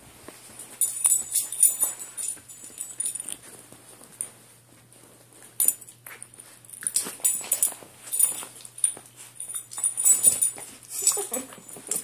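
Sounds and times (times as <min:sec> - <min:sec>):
bedding rustling: 0:00.0 - 0:12.0.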